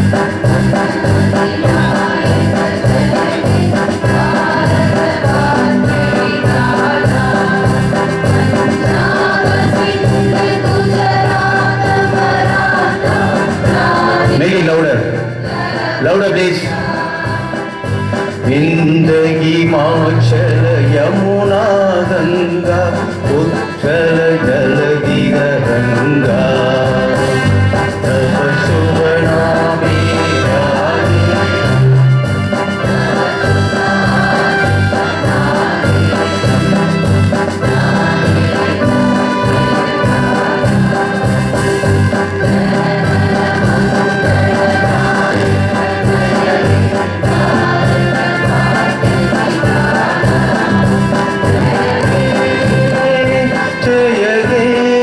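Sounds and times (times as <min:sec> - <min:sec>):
music with singing: 0:00.0 - 0:55.0.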